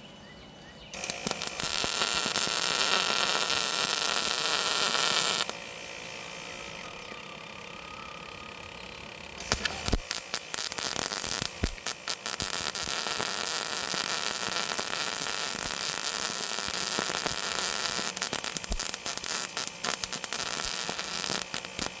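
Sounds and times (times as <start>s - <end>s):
welding arc crackling and hissing: 1.0s - 7.0s, 8.0s - 22.0s.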